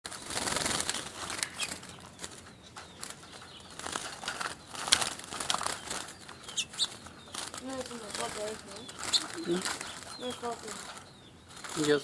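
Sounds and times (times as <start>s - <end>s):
birds flapping wings: 0.1s - 12.0s
bird chirps: 0.3s - 12.0s.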